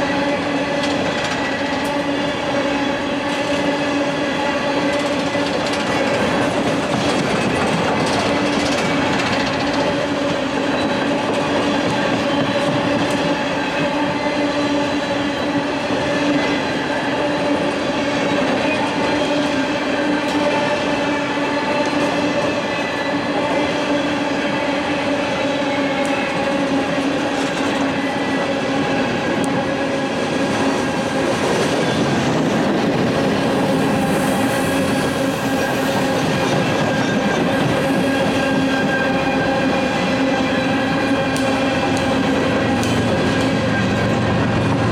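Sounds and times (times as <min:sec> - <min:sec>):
freight train rumble and clatter: 0:00.0 - 0:44.9.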